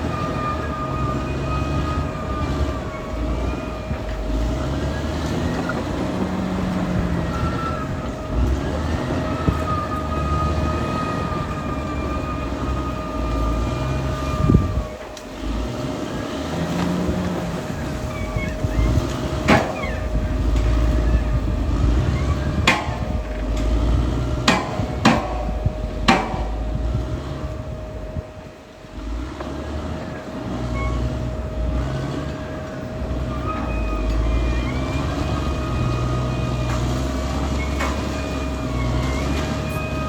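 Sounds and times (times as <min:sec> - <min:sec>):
bulldozer diesel engine: 0:00.0 - 0:40.0
sharp metallic clanks: 0:00.0 - 0:40.0
steady whine: 0:00.0 - 0:40.0.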